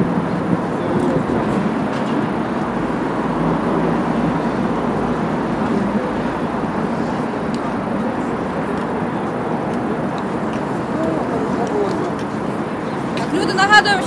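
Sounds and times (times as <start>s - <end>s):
city road traffic hum: 0.0s - 14.0s.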